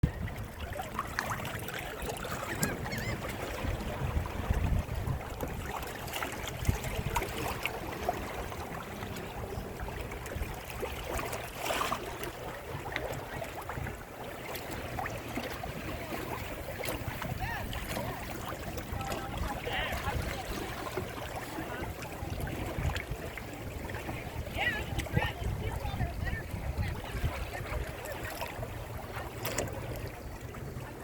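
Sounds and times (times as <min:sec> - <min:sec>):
water rushing along a hull: 0:00.0 - 0:31.0
wind buffeting microphone: 0:00.0 - 0:31.0.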